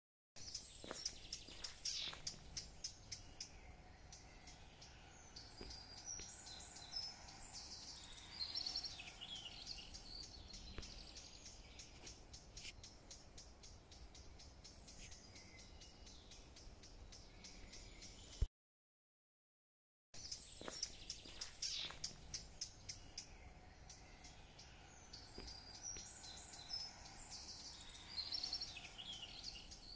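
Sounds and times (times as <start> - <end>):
small birds chirping faintly: 0.4 - 18.5, 20.2 - 29.9.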